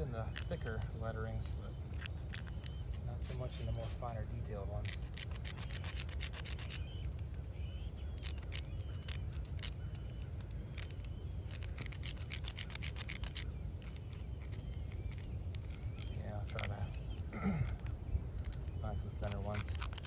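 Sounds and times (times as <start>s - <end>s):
brush scrubbing stone: 0.0s - 7.4s, 8.1s - 17.0s, 19.2s - 20.0s
birds chirping faintly: 0.0s - 20.0s.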